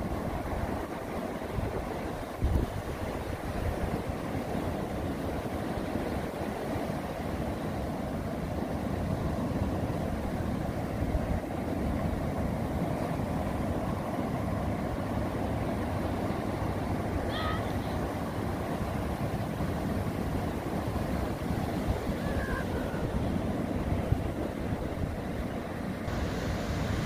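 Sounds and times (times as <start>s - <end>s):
wind buffeting microphone: 0.0s - 17.2s, 17.9s - 27.0s
ocean surf breaking: 0.0s - 27.0s.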